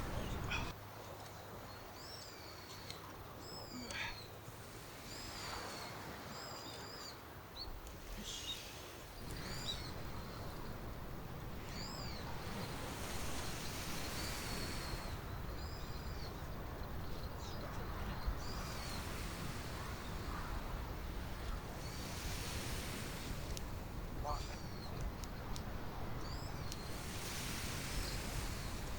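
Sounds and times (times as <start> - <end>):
small birds chirping: 0.0 - 4.4, 5.0 - 28.9.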